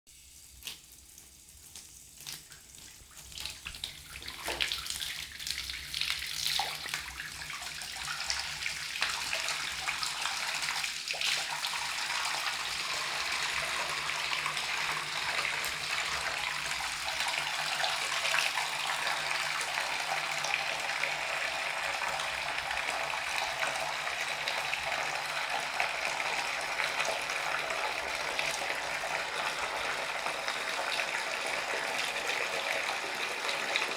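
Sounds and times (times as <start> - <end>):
tap water filling bathtub: 0.6 - 33.9.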